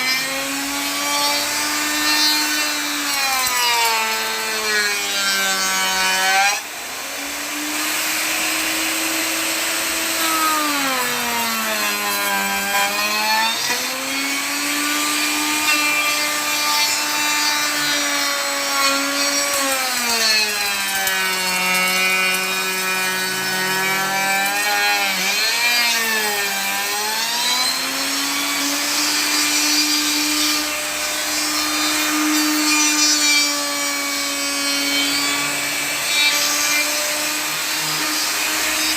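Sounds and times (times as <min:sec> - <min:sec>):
wood router cutting wood: 0:00.0 - 0:38.9.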